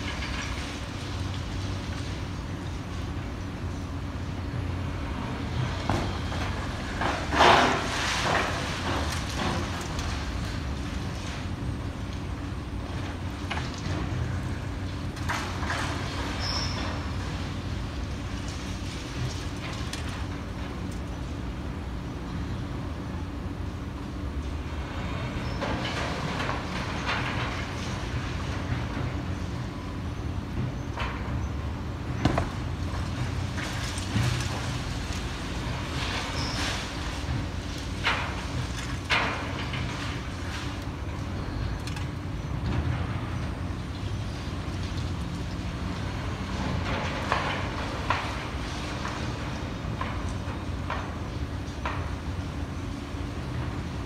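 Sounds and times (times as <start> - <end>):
crane engine droning: 0.0 - 54.0
demolition machinery rumble: 0.0 - 54.0.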